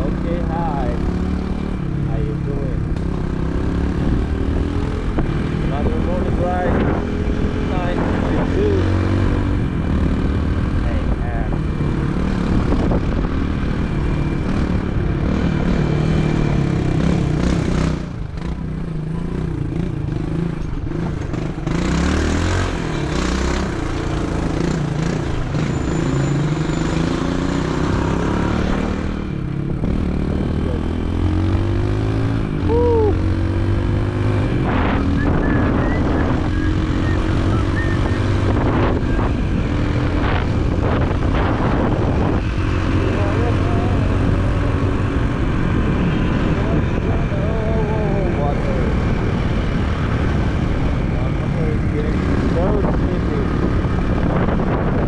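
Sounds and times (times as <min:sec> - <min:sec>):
motorcycle engine revving: 0:00.0 - 0:55.0
road noise: 0:00.0 - 0:55.0.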